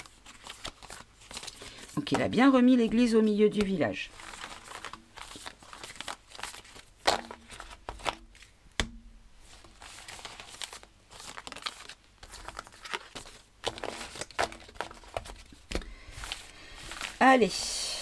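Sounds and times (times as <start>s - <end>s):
cards rustling and sliding: 0.0s - 8.6s, 9.4s - 17.6s.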